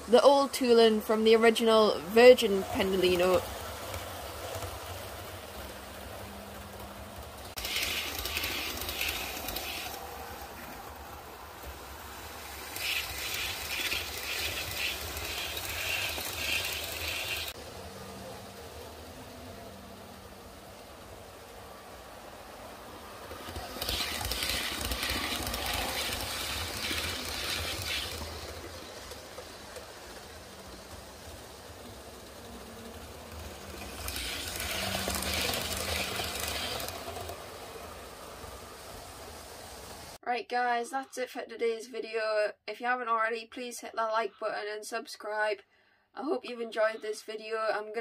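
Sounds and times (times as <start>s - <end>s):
model trains rattling on track: 0.0s - 40.2s.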